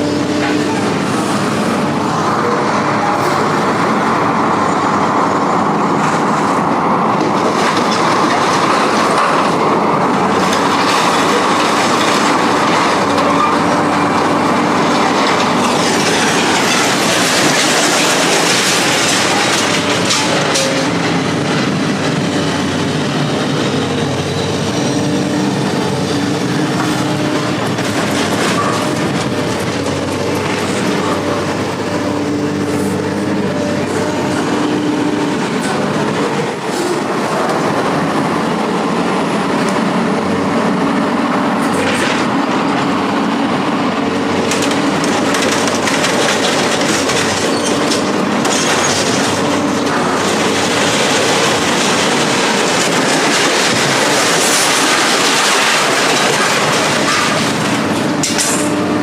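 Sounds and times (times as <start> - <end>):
train rolling past: 0.0 - 59.0.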